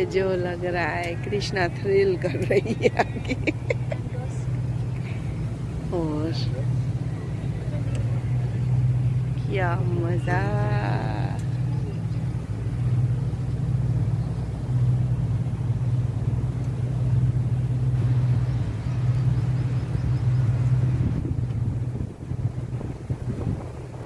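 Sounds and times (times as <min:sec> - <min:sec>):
speedboat engine drone: 0:00.0 - 0:24.0
water wash: 0:00.0 - 0:24.0
wind: 0:00.0 - 0:24.0.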